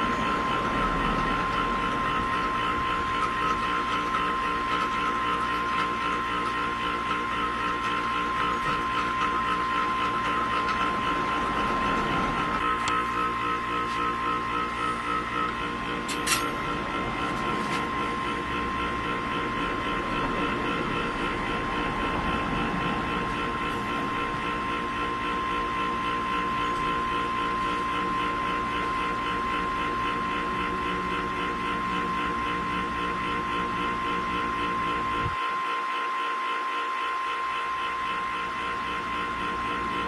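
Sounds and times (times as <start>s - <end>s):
pulsing motor whine: 0.0s - 40.0s.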